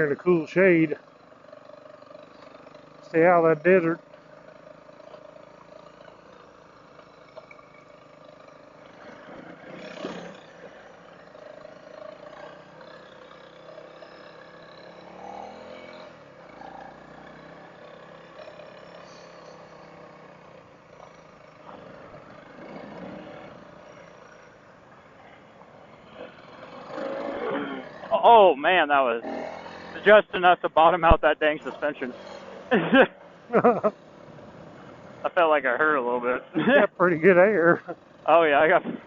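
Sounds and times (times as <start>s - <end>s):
muffled motorcycle engine revving: 0.0s - 39.0s.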